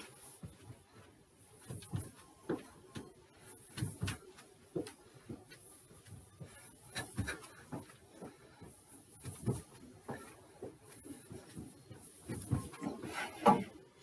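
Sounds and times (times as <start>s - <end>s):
feet landing soft thuds: 1.5s - 13.8s.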